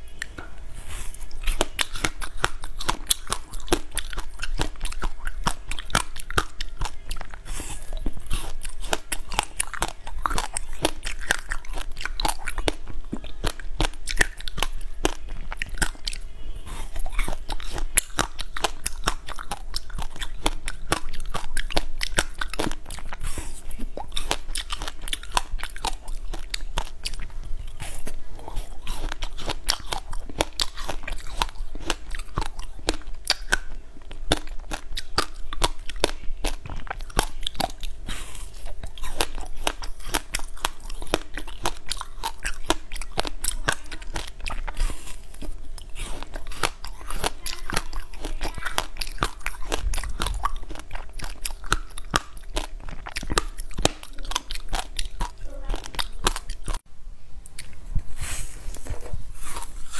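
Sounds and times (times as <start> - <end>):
crunchy biting and chewing: 0.0 - 59.9.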